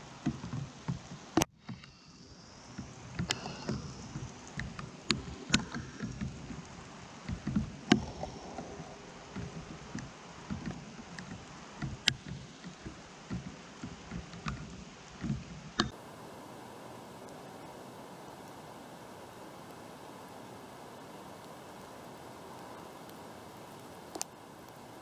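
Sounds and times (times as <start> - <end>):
raindrops ticking on camera: 0.0 - 25.0
steady hiss: 0.0 - 25.0
wind buffeting microphone: 2.8 - 25.0.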